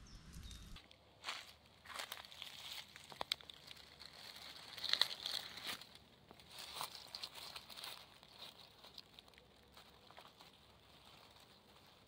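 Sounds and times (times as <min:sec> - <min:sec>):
leaves and twigs crackling underfoot: 0:00.1 - 0:12.0.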